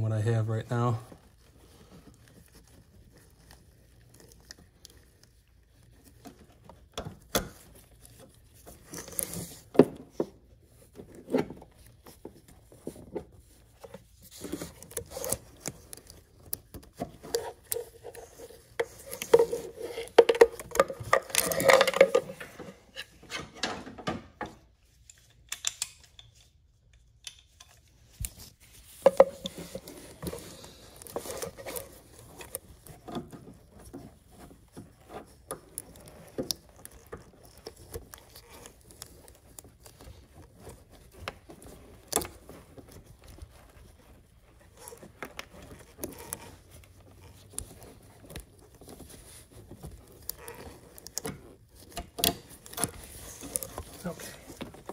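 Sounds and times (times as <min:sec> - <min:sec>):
rubbing and scraping: 0:00.0 - 0:23.6, 0:27.6 - 0:54.9.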